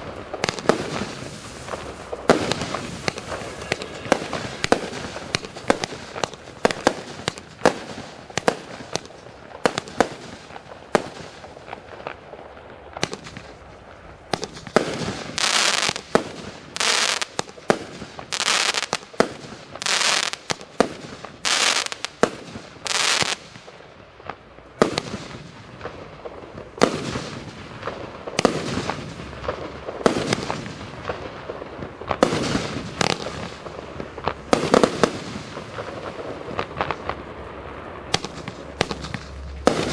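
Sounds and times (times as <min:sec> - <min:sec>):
firework cake firing: 0:00.0 - 0:39.9.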